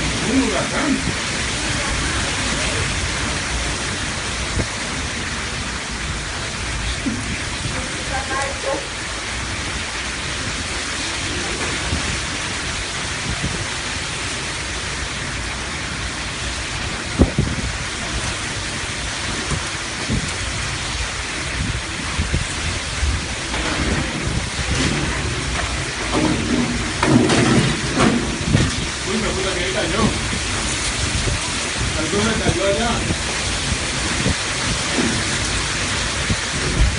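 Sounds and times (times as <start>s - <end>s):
gusting wind rumble: 0.0s - 36.9s
heavy rain hissing: 0.0s - 36.9s.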